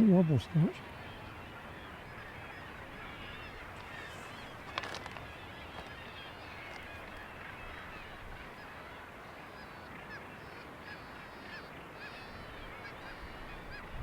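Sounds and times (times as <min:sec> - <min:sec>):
seabird colony calling: 0:00.0 - 0:14.0.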